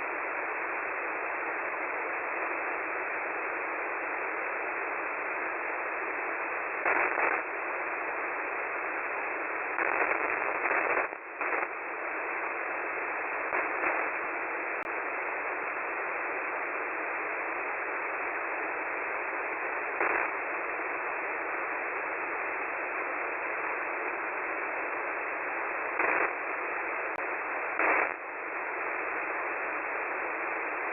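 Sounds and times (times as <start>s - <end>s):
radio hiss and static: 0.0s - 30.9s.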